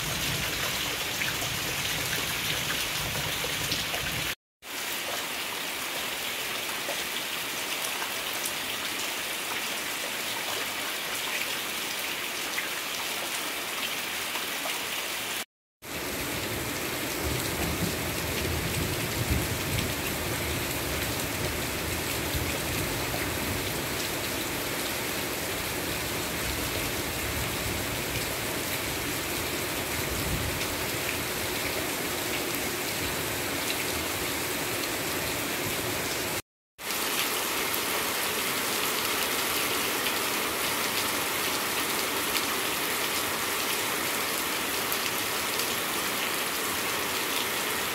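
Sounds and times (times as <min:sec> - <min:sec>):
heavy rain on leaves: 0:00.0 - 0:47.9.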